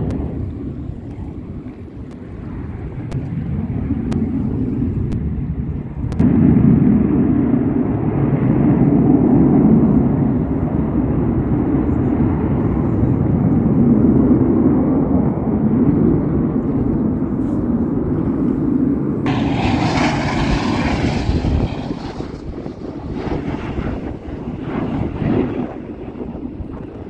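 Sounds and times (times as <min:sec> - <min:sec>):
jet aircraft rumble: 0:00.0 - 0:27.0.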